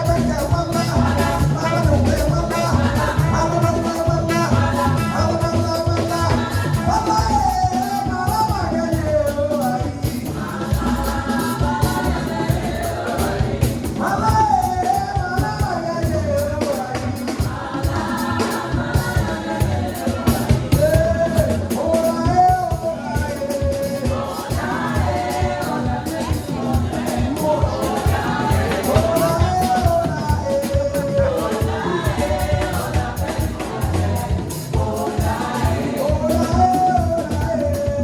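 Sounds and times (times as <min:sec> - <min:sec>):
driving drum beat: 0:00.0 - 0:38.0
gospel band playing: 0:00.0 - 0:38.0.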